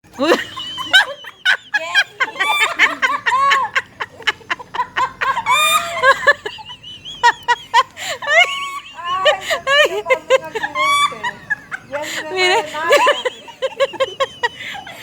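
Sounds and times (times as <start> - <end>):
women laughing: 0.1 - 15.0.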